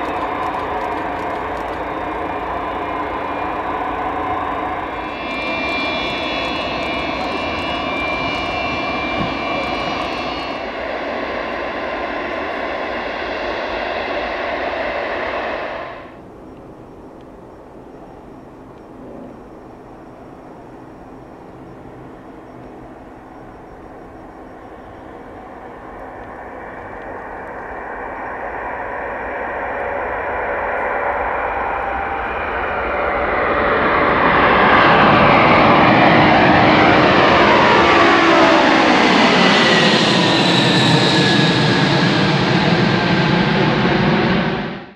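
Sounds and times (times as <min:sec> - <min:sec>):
jet engines at takeoff power: 0:00.0 - 0:44.9.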